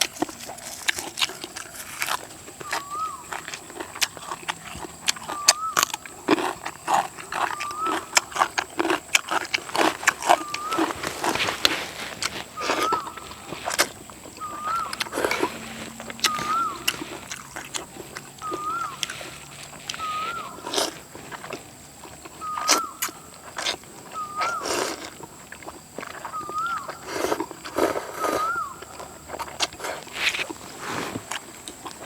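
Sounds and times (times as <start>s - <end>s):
animal calling: 0.0s - 25.4s, 26.0s - 32.0s.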